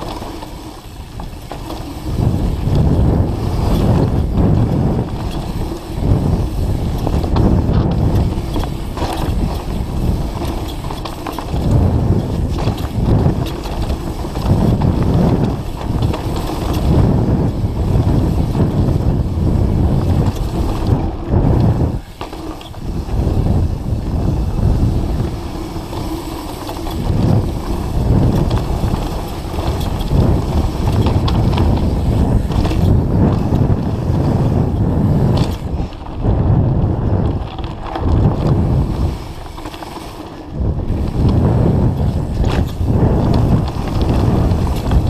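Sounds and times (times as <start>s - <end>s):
bike rattling and clicking: 0.0s - 45.0s
tyres rolling on dirt: 0.0s - 45.0s
wind buffeting microphone: 0.0s - 45.0s.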